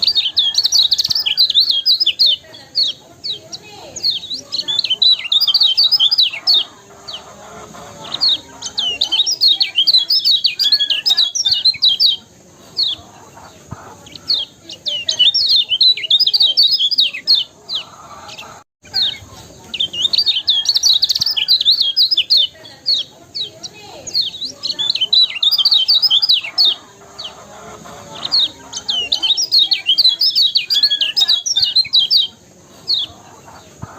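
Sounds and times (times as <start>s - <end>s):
bird chattering chirps: 0.0s - 33.9s.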